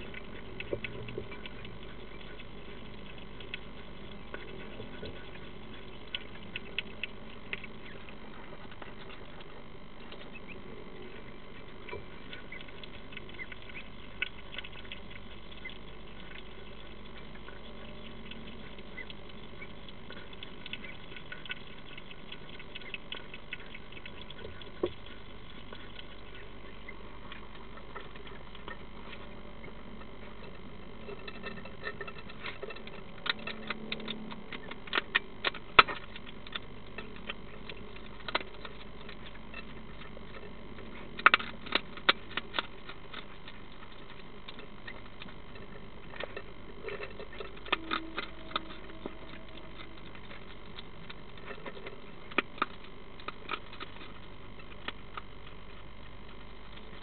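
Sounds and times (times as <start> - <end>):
hedgehog crunching dry food: 0.0 - 57.0.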